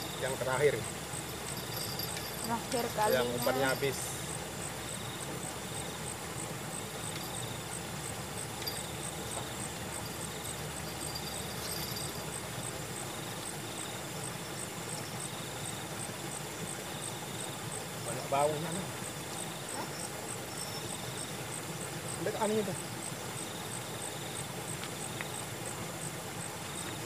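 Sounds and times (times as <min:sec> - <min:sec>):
background hiss: 0:00.0 - 0:27.0
insects chirping in pulses: 0:00.0 - 0:27.0
lower insect trilling: 0:00.0 - 0:27.0.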